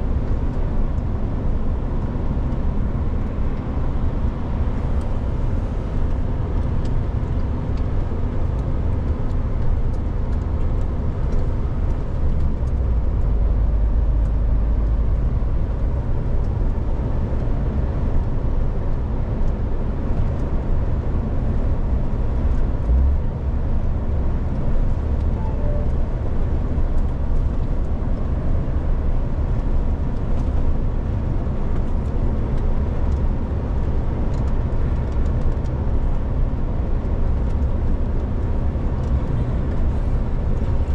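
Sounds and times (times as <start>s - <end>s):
truck engine and road rumble: 0.0s - 40.9s.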